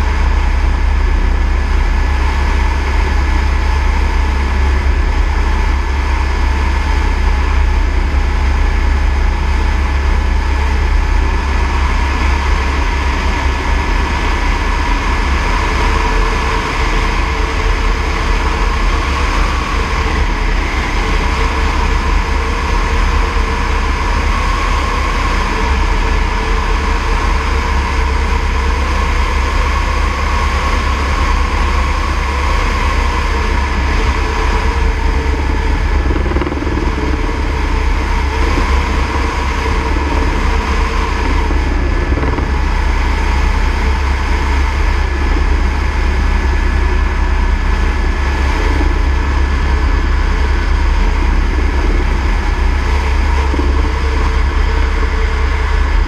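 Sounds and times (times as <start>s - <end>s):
helicopter in flight: 0.0s - 56.0s.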